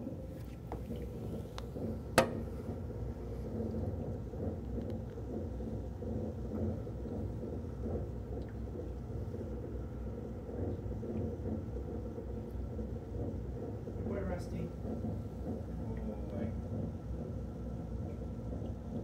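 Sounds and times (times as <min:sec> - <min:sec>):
moving water: 0:00.0 - 0:17.0
treadmill motor rumble: 0:00.0 - 0:19.0.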